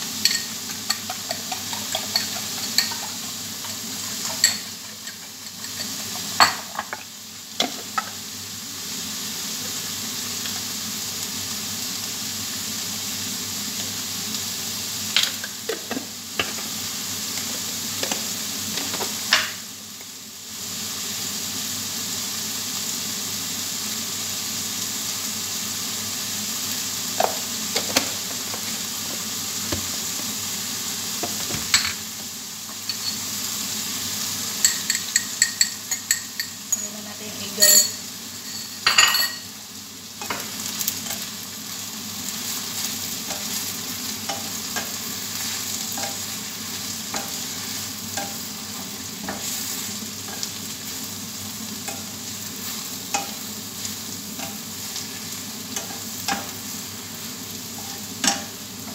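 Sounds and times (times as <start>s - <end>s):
vegetables sizzling in a frying pan: 0.0s - 58.9s.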